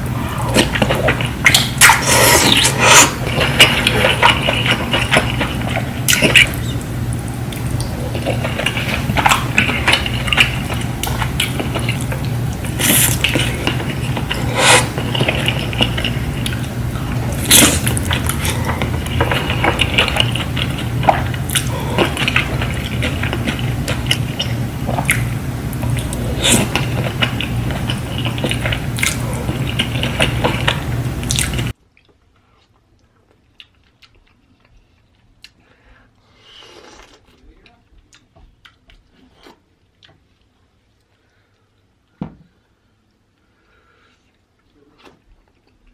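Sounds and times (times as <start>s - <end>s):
steady low hum: 0.0s - 45.9s
wet eating and chewing: 0.0s - 45.9s.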